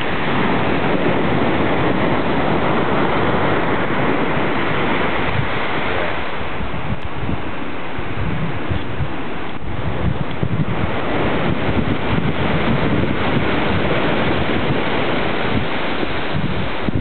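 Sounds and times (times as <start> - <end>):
ocean surf rushing: 0.0 - 17.0
wind buffeting microphone: 0.0 - 17.0.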